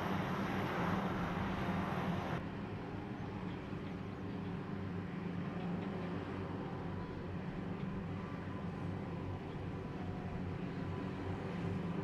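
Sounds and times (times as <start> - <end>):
harvester engine drone: 0.0 - 12.0.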